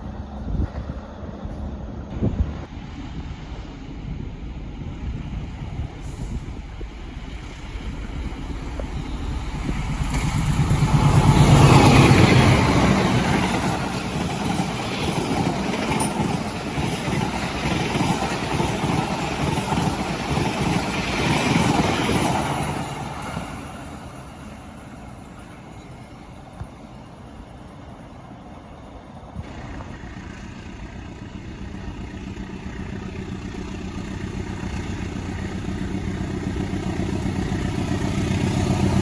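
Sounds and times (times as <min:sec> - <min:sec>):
diesel locomotive engine hum: 0:00.0 - 0:39.0
train wheels clattering on rails: 0:05.0 - 0:26.8, 0:29.5 - 0:39.0.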